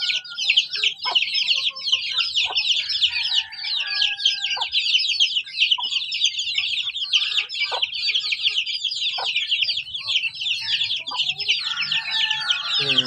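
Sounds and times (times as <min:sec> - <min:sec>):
adult chickens calling: 0:00.0 - 0:13.0
chicks peeping: 0:00.0 - 0:13.0.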